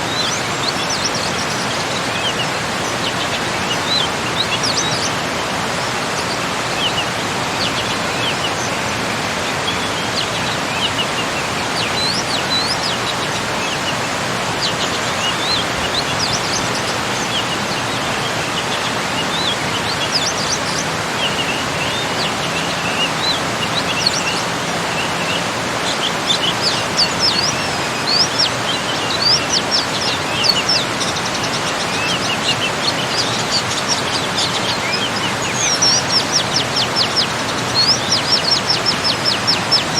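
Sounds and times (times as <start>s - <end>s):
small birds chirping: 0.0s - 39.9s
small waterfall rushing: 0.0s - 39.9s.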